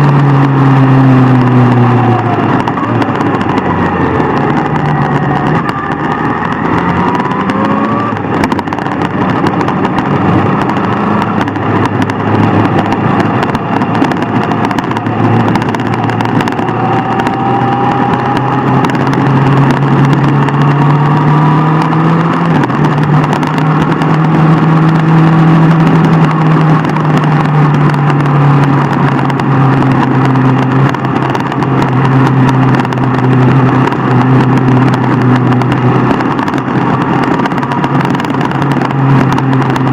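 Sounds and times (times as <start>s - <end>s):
motorcycle engine running: 0.0s - 39.9s
rushing wind noise: 0.0s - 39.9s.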